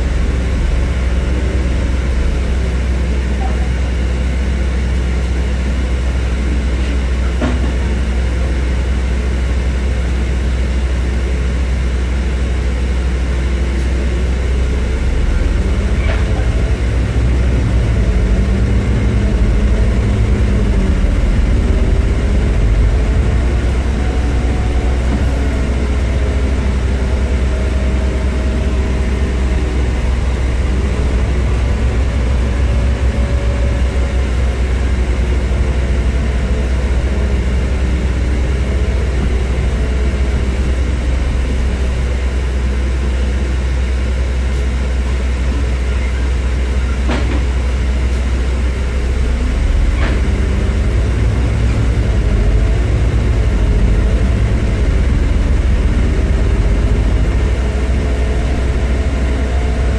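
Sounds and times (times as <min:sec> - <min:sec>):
bus engine drone with whine: 0:00.0 - 0:59.9.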